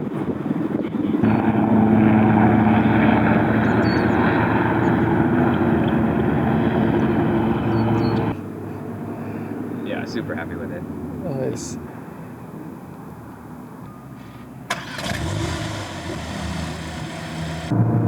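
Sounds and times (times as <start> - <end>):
engine droning: 0.2 - 18.0.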